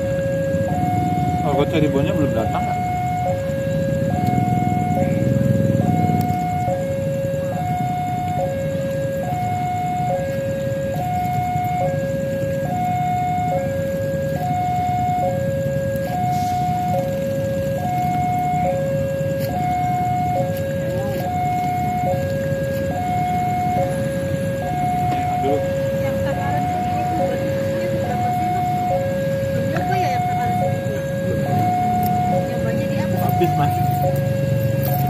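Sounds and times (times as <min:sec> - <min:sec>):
road traffic rumble: 0:00.0 - 0:35.0
two-tone crossing alarm: 0:00.0 - 0:35.0.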